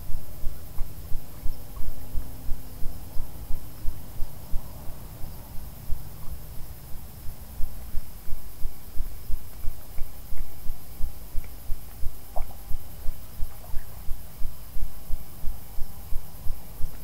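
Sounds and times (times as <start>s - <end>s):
faint insect chirping: 0.0s - 17.0s.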